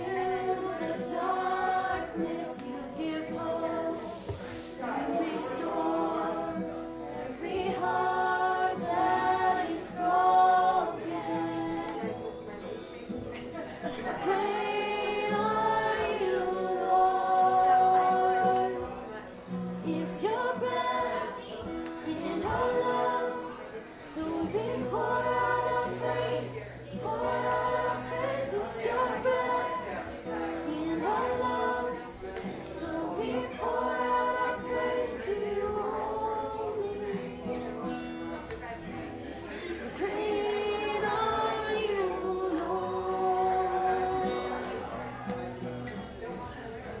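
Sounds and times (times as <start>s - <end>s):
women singing together: 0.0s - 45.4s
acoustic guitar: 0.0s - 47.0s.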